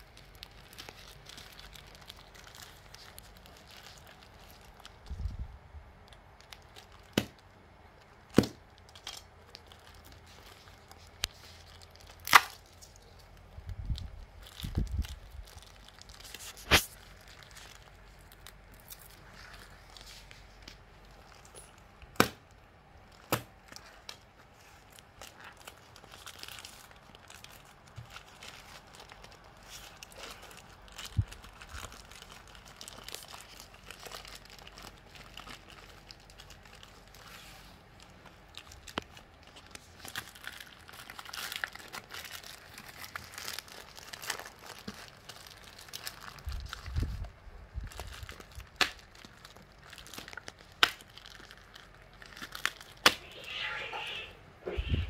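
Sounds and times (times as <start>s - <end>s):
plastic wrapping crinkling and tearing: 0.0s - 55.0s.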